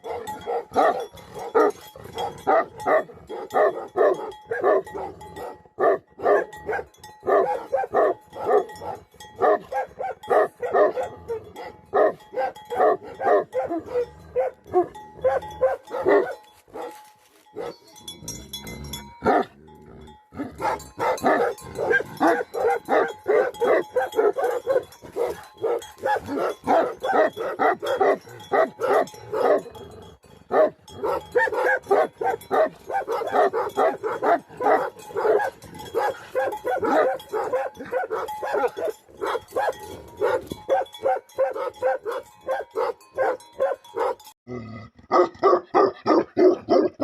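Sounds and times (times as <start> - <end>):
dogs barking: 0.0 - 18.4, 19.1 - 19.6, 20.3 - 44.4, 45.1 - 47.0.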